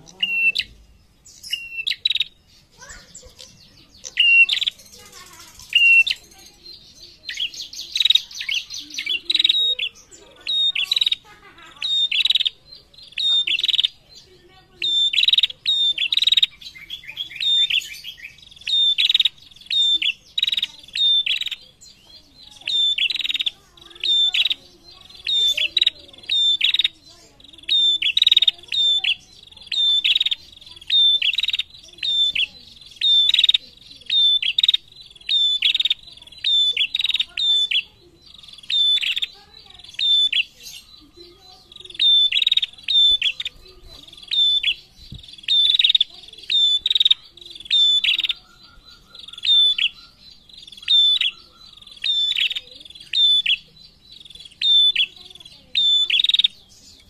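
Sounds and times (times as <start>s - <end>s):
bird chirping sharply: 0.0s - 57.0s.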